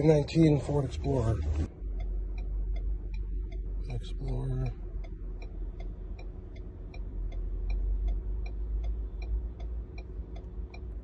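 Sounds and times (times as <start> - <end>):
quick electronic ticking: 0.0 - 11.0
steady low hum: 0.0 - 11.0.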